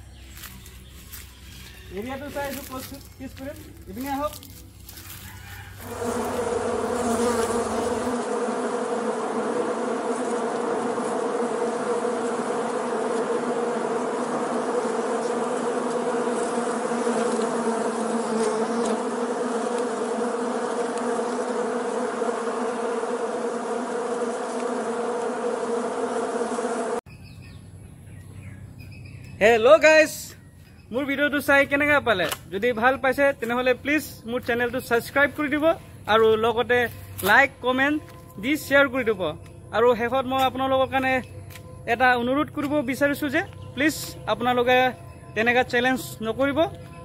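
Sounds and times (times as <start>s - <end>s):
hornets buzzing: 0.0s - 29.6s, 30.8s - 47.0s.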